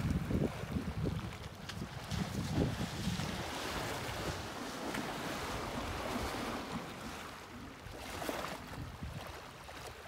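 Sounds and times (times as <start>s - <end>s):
water splashing: 0.0s - 10.0s
wind buffeting microphone: 0.0s - 10.0s.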